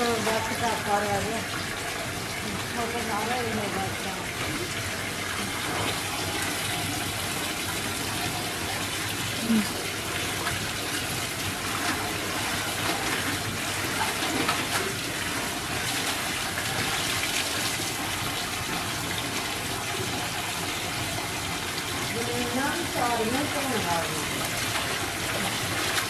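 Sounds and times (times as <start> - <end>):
tap water pouring into tub: 0.0 - 26.0.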